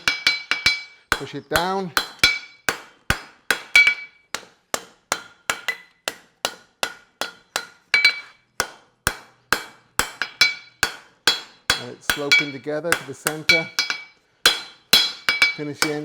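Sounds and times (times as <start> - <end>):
hammer striking horseshoe on anvil: 0.0 - 16.0.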